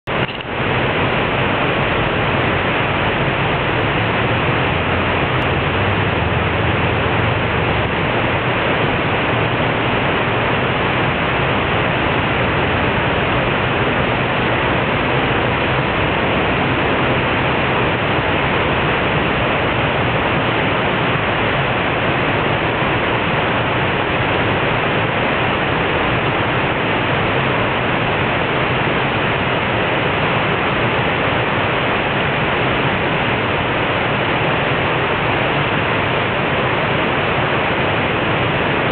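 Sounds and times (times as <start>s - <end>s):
water rushing over a weir: 0.0s - 38.9s.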